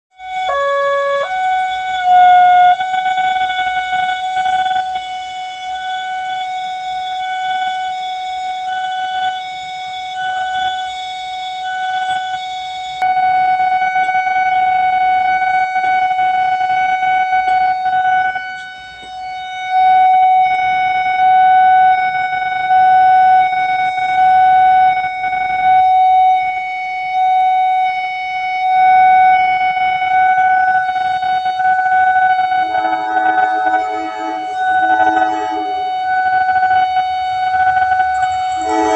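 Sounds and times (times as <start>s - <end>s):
level crossing alarm: 0.1s - 38.9s.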